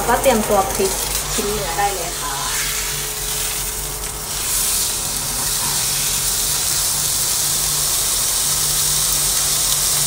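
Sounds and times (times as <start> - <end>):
steak sizzling in a frying pan: 0.4 - 10.0.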